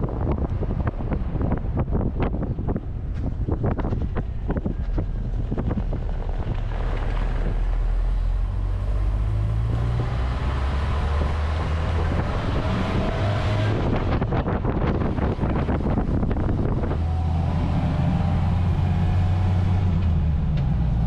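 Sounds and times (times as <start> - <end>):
tyre and wind noise: 0.0 - 21.0
car engine and gearbox running: 0.1 - 17.0.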